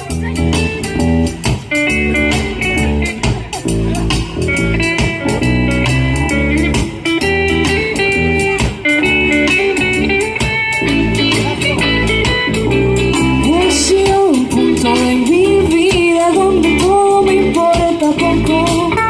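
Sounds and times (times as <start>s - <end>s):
bass guitar: 0.0s - 19.0s
drum beat with cymbals: 0.0s - 19.0s
electric guitar: 0.0s - 19.0s.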